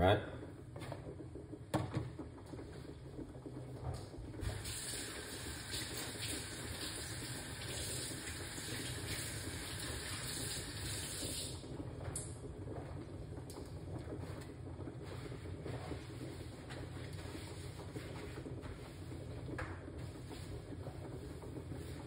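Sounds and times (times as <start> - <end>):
water boiling in a pot: 0.0 - 22.0.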